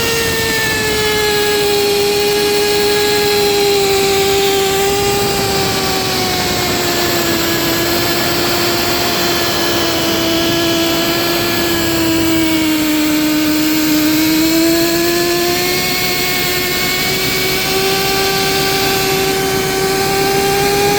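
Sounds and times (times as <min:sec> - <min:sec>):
grinding machine motor whine: 0:00.0 - 0:20.9.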